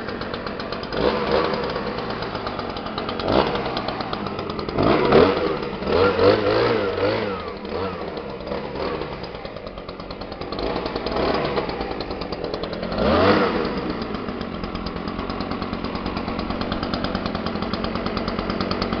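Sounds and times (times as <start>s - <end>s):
small two-stroke engine idling: 0.0s - 19.0s.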